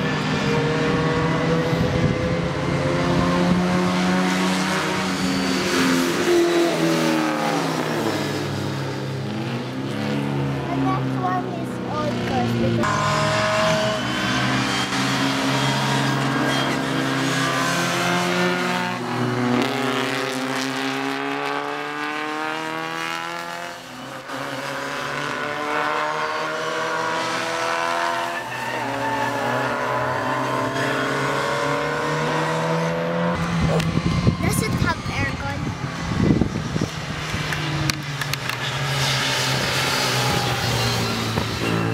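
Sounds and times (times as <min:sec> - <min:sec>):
racing car engines: 0:00.0 - 0:41.9.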